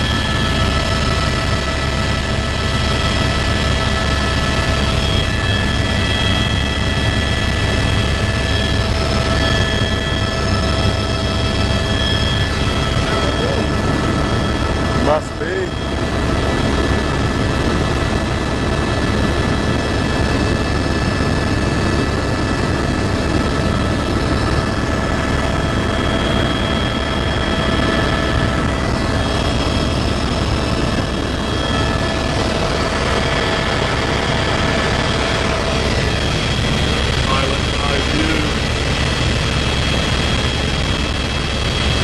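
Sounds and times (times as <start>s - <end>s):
helicopter engine and rotors: 0.0s - 42.0s
high turbine whine: 0.0s - 42.0s.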